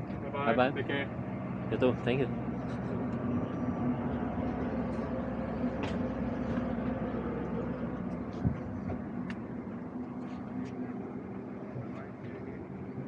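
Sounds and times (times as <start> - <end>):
air-conditioning hum: 0.0 - 13.0.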